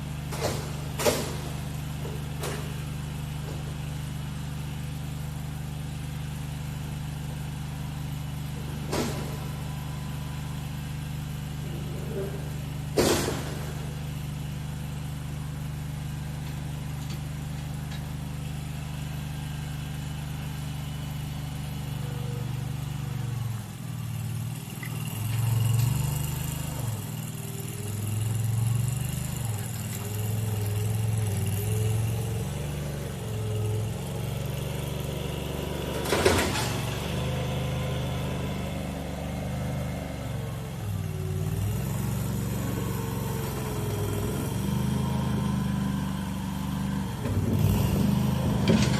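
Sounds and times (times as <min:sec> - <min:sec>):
small engine running: 0:00.0 - 0:48.9.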